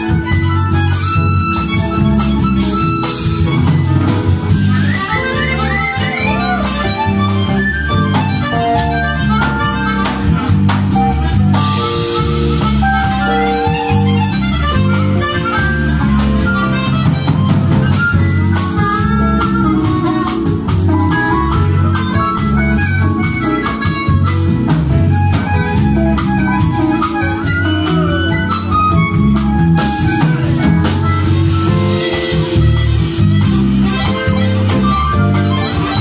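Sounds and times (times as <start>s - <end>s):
amplified harmonica solo: 0.0s - 36.0s
drums: 0.0s - 36.0s
electric bass groove: 0.0s - 36.0s
electric guitar: 0.0s - 36.0s.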